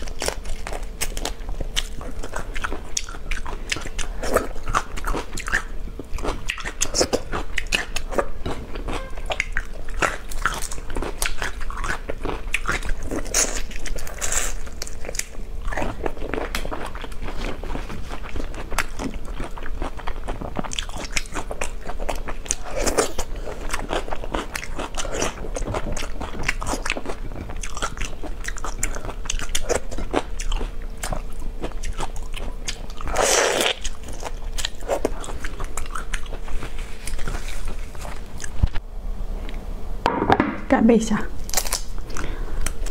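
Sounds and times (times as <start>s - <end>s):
wet sucking and chewing: 0.0s - 19.1s, 19.8s - 38.8s.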